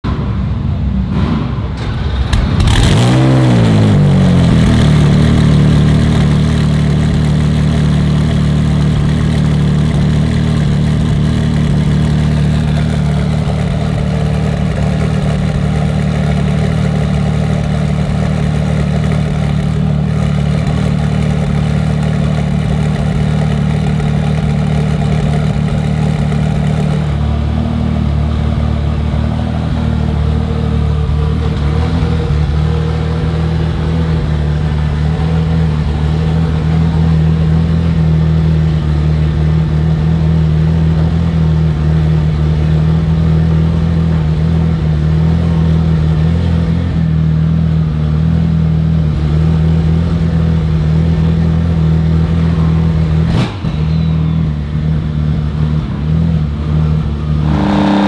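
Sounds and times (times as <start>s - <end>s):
racing car engine idling: 0.0s - 58.0s.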